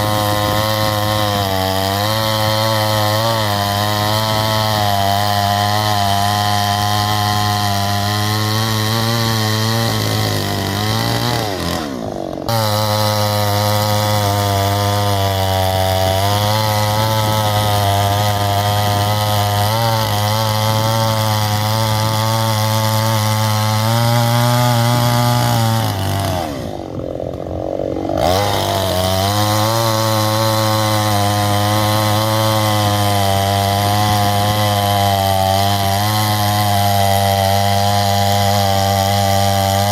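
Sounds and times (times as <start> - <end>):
chainsaw running at high speed: 0.0 - 39.9.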